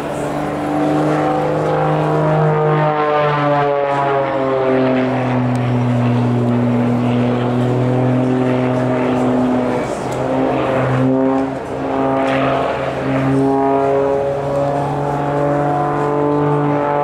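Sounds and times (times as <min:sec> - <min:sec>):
propeller plane droning overhead: 0:00.0 - 0:17.0.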